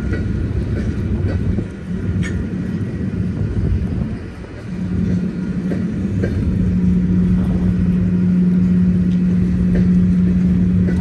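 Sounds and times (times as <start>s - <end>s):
freight train wheels rumbling: 0.0s - 11.0s
steady low hum: 0.0s - 11.0s.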